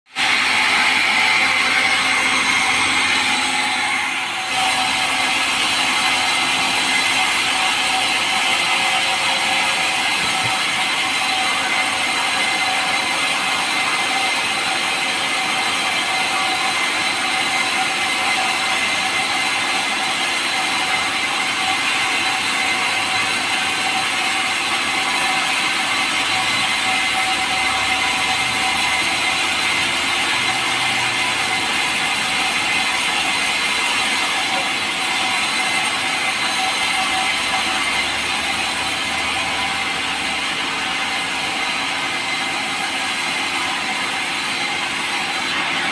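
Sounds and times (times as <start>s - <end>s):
power saw cutting wood: 0.1s - 45.9s.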